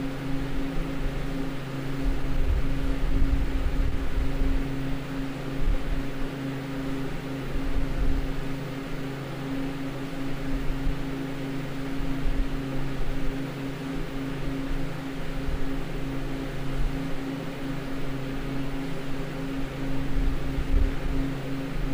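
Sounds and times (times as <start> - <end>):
constant low hum: 0.0 - 21.9.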